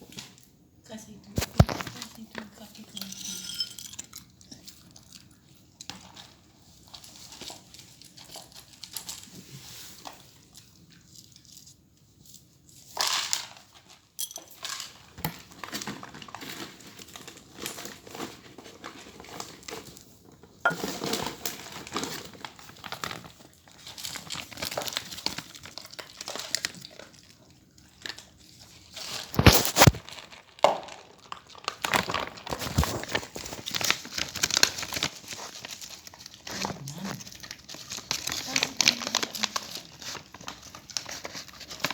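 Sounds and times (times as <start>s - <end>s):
crinkling and crunching: 0.0s - 41.9s.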